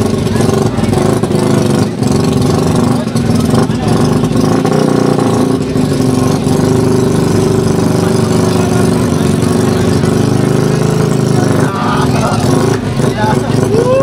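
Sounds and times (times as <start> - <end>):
small motorcycle engines idling: 0.0 - 14.0.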